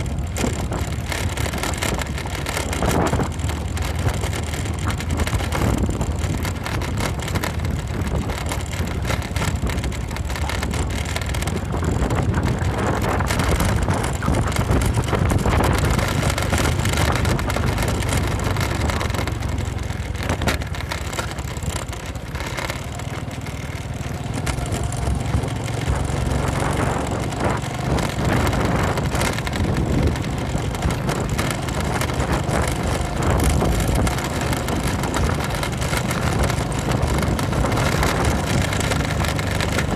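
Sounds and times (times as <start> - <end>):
wind on microphone: 0.0 - 19.5, 24.4 - 39.9
knocks and rattles: 0.0 - 39.9
motorcycle engine running: 0.0 - 39.9.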